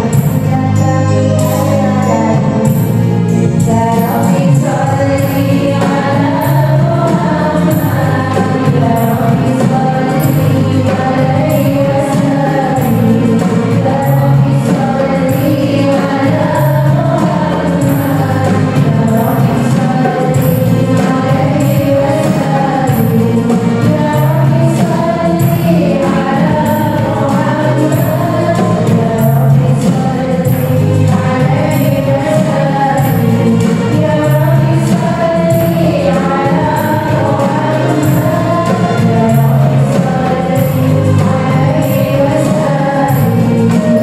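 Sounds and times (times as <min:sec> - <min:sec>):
frame drums: 0:00.0 - 0:44.0
keyboard: 0:00.0 - 0:44.0
voices singing devotional song: 0:00.0 - 0:44.0.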